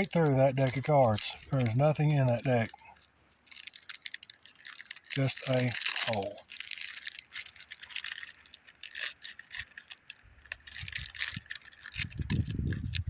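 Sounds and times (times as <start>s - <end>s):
playing cards rustling: 0.0s - 13.0s.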